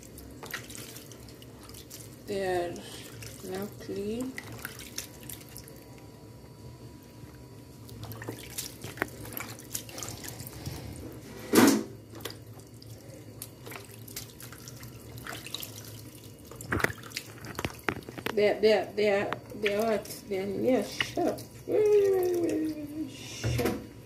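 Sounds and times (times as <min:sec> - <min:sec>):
water splashing and dripping: 0:00.0 - 0:06.0, 0:07.3 - 0:10.9, 0:12.1 - 0:18.5, 0:19.4 - 0:22.9
hands rinsing fish in water: 0:00.0 - 0:06.1, 0:07.2 - 0:23.1.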